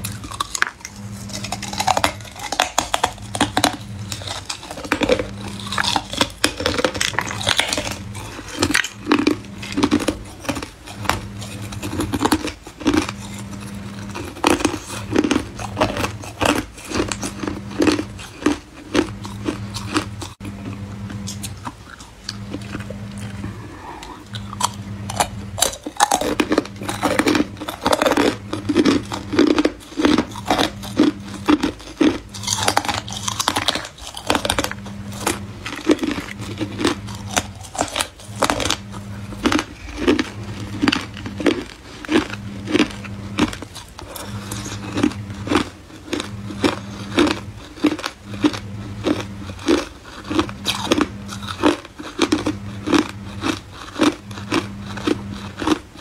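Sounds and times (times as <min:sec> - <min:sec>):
ice cubes crunching: 0:00.0 - 0:23.4, 0:24.3 - 0:56.0
low hum: 0:00.0 - 0:56.0.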